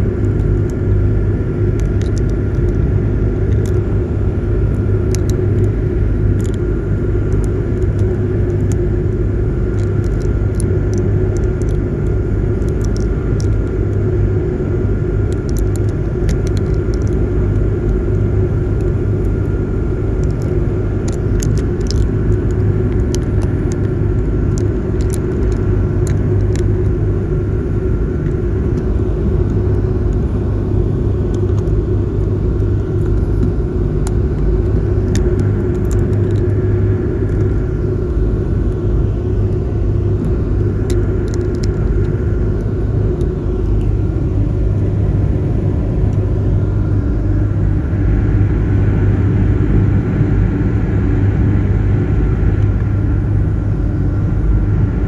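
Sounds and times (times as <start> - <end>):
ferry engines droning: 0.0 - 55.0
high engine whine: 0.0 - 55.0.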